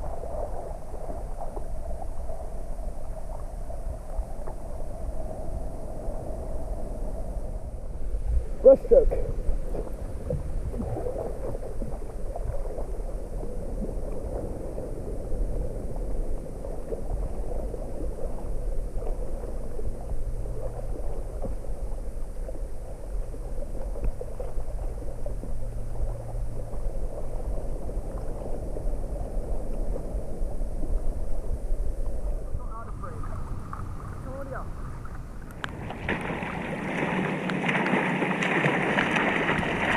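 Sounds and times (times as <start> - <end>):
faint low hum: 0.0 - 39.9
water sloshing and gurgling: 0.0 - 39.9.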